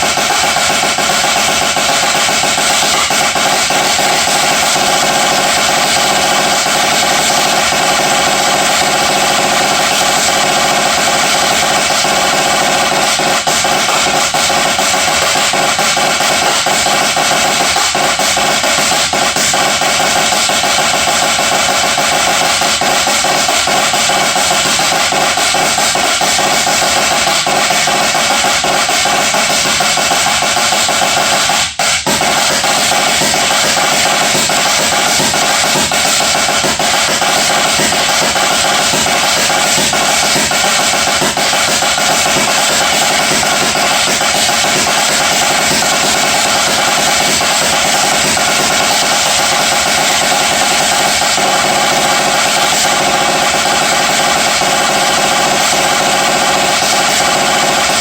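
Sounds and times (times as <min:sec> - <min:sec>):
drum kit solo: 0:00.0 - 0:58.0.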